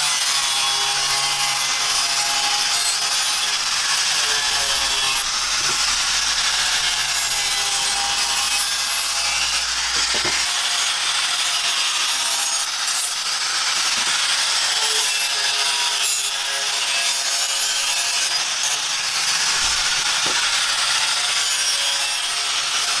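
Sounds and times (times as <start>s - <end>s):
rough rasping scrape: 0.7s - 23.0s.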